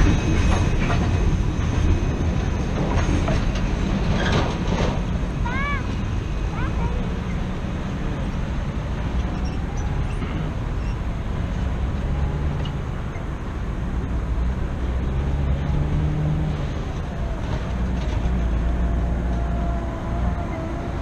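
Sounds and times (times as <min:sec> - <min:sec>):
low rumble of vehicles: 0:00.0 - 0:21.0.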